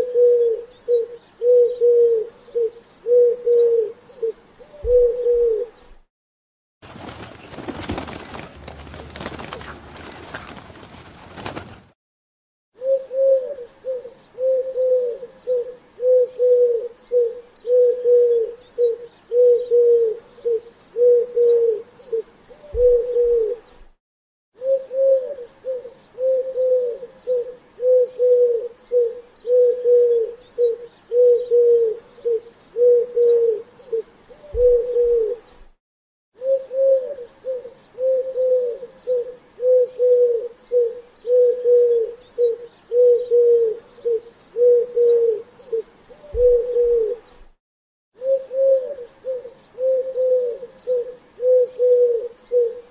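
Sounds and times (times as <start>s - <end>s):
pigeon cooing: 0.0s - 6.0s, 12.8s - 23.7s, 24.6s - 35.5s, 36.4s - 47.3s, 48.2s - 52.9s.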